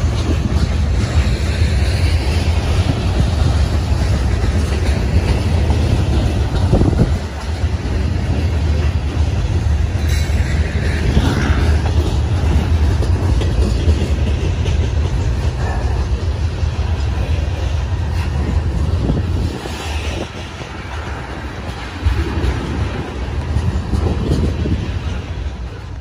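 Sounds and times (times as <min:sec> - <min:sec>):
rail clicks: 0:00.0 - 0:26.0
train wheels rumbling on rails: 0:00.0 - 0:26.0.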